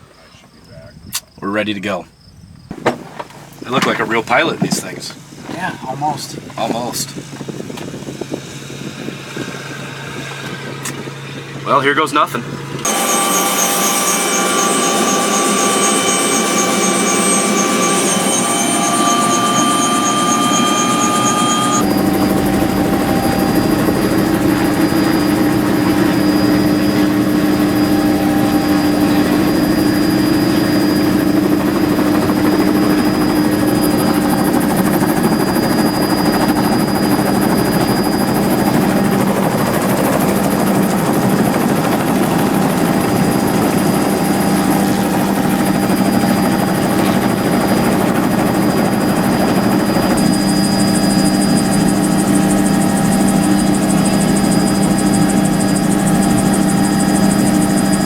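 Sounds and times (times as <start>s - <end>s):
helicopter engine whine: 2.7s - 58.0s
helicopter rotor drone: 3.4s - 58.0s.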